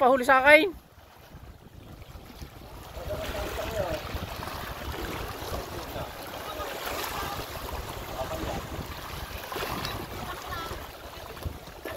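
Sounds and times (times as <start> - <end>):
wind buffeting microphone: 0.7 - 11.9
water lapping against rocks: 0.8 - 11.9.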